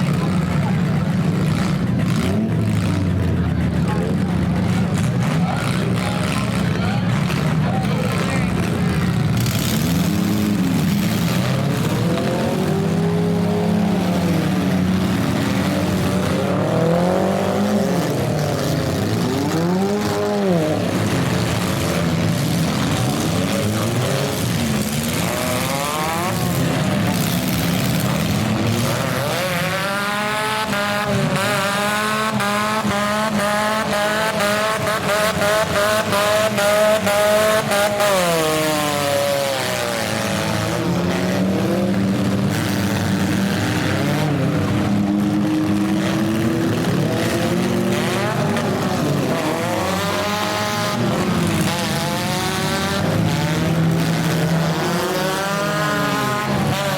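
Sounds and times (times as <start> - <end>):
car engines revving: 0.0 - 56.9
engine held at high revs: 0.0 - 56.9.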